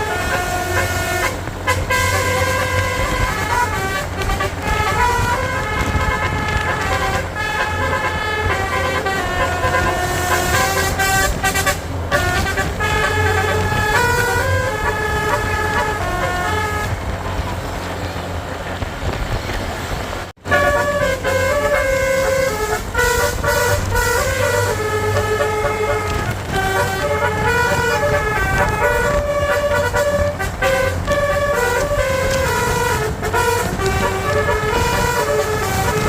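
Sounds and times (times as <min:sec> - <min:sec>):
multi-tone bus horn melody: 0:00.0 - 0:18.8, 0:20.4 - 0:36.0
bus engine running: 0:00.0 - 0:36.0.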